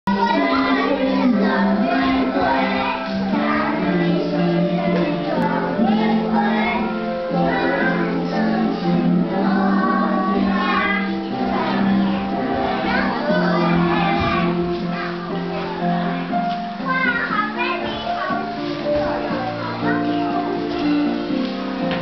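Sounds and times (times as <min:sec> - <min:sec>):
children singing: 0:00.1 - 0:22.0
instrumental accompaniment: 0:00.1 - 0:22.0.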